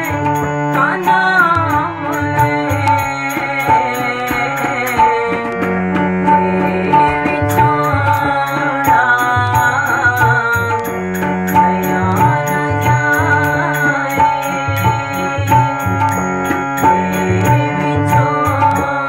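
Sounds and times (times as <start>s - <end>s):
harmonium held notes: 0.0s - 19.0s
tabla rhythm: 0.0s - 19.0s
woman singing: 0.0s - 19.0s.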